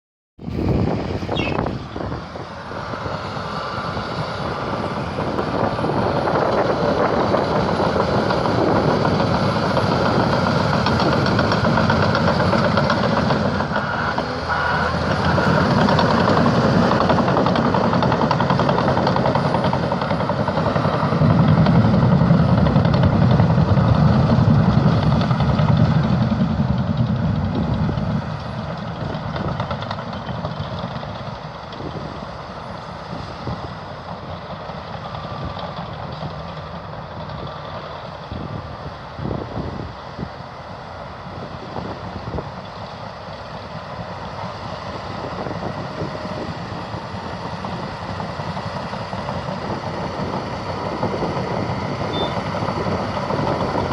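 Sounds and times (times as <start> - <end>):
bulldozer diesel engine working: 0.4 - 53.9.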